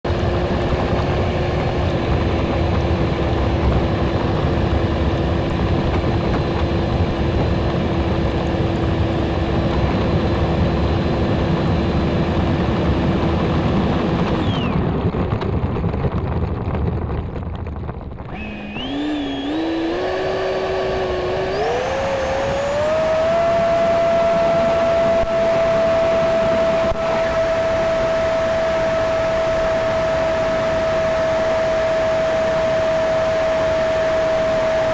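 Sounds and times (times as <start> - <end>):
electric fan motor whine: 0.1 - 34.9
rumbling airflow: 0.1 - 34.9.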